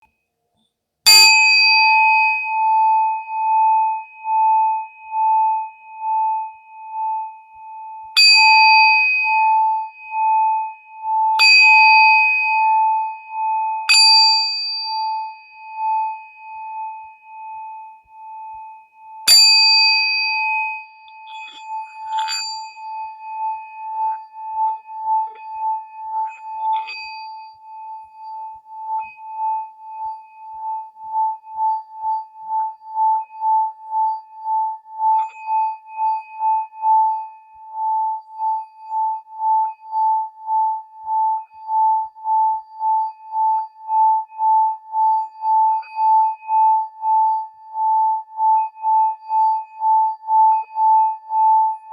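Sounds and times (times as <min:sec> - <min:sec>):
metal singing bowl ringing: 0:01.1 - 0:51.9.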